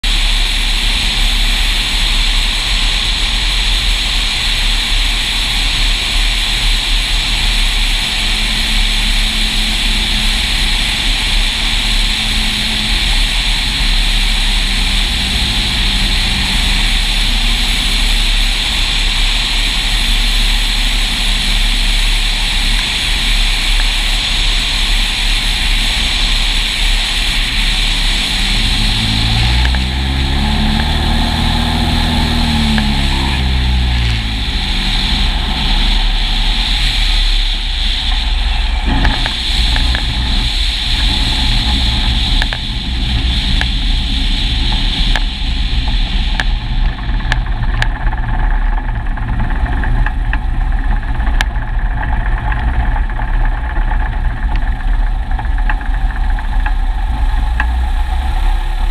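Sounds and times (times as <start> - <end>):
propeller plane engine: 0.0 - 58.9
wind rush and buffeting: 0.0 - 58.9.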